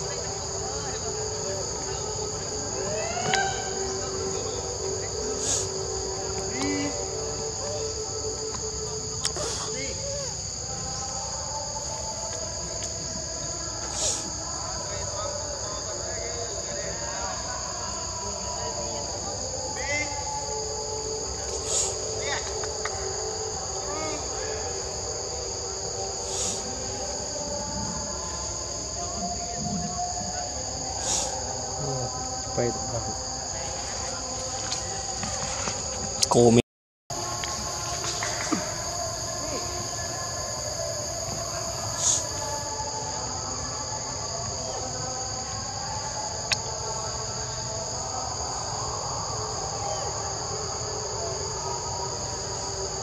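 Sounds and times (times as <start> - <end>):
forest insects droning: 0.0 - 53.0.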